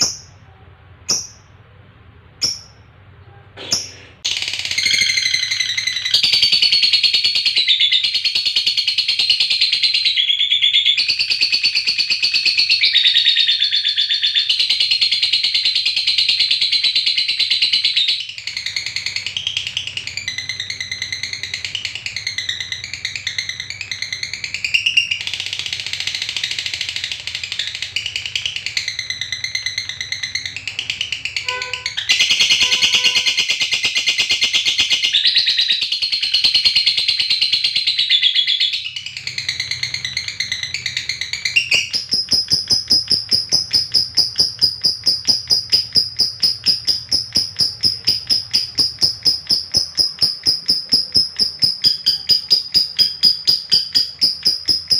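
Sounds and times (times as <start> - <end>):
lovebird chattering trill: 0.0 - 0.4, 1.1 - 1.5, 3.6 - 54.9.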